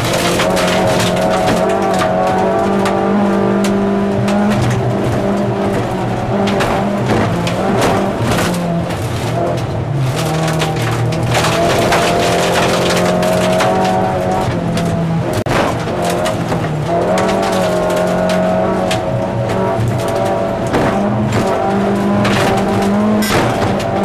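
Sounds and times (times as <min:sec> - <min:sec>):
gravel clattering against car: 0:00.0 - 0:24.0
rally car engine running hard: 0:00.0 - 0:24.0.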